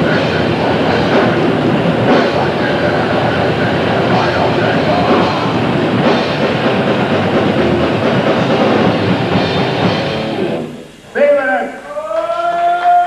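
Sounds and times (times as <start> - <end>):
fast drumming: 0.0 - 10.7
distorted guitar and bass: 0.0 - 11.2.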